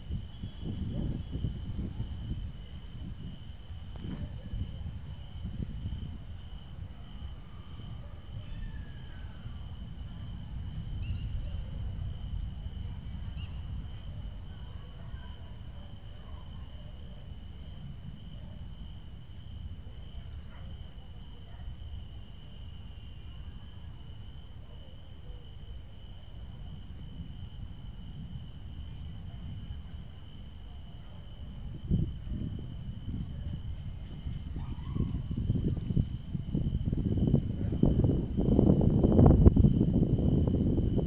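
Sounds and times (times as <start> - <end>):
wind buffeting microphone: 0.0 - 20.8, 25.4 - 41.0
crickets trilling: 0.0 - 41.0.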